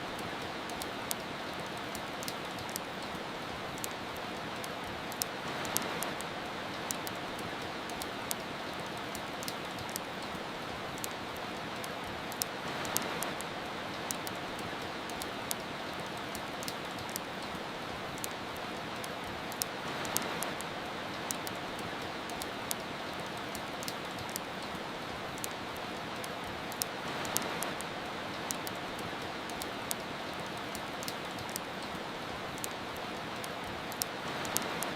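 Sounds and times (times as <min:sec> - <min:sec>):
steady rain hiss: 0:00.0 - 0:34.9
wood fire crackling: 0:00.0 - 0:34.9.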